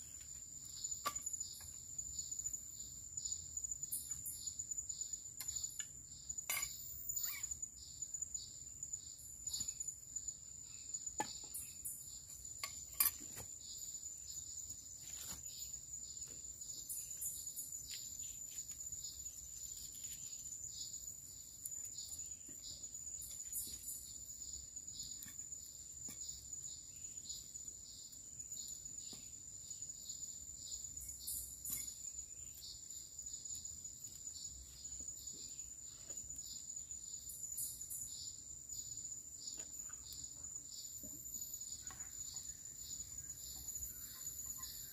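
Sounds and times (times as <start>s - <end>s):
insect chorus: 0.0s - 44.9s.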